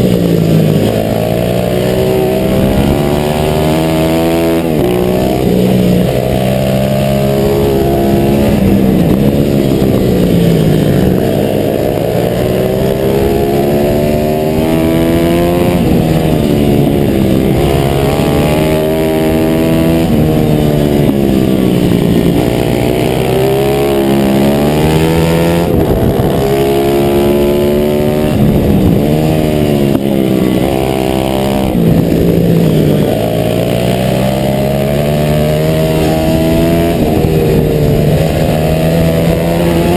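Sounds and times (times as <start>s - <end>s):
pit bike engine racing: 0.0s - 39.9s.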